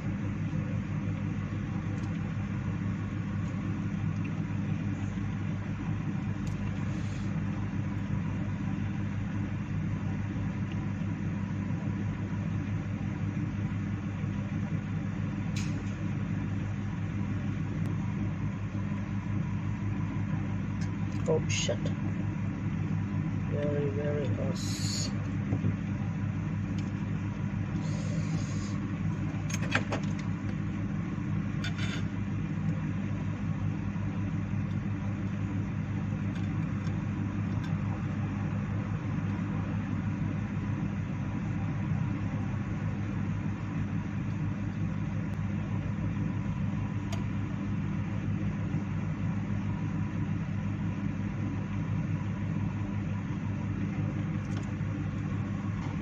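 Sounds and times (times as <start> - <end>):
hot air blower humming: 0.0 - 56.0.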